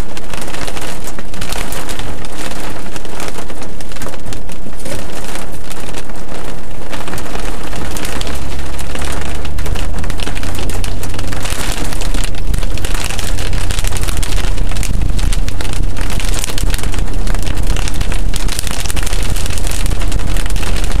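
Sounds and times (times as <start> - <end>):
car rumbling on wet road: 0.0 - 21.0
rain pelting a car roof: 0.0 - 21.0.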